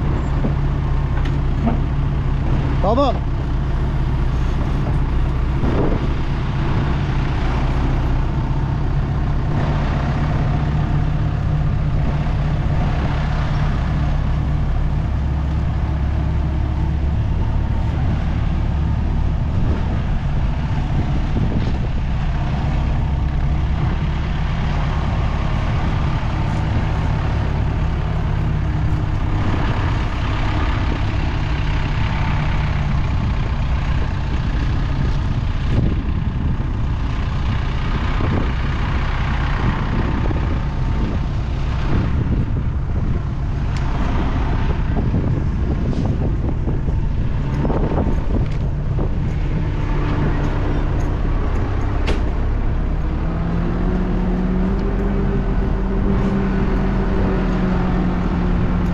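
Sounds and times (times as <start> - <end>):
diesel engine humming: 0.0 - 58.9.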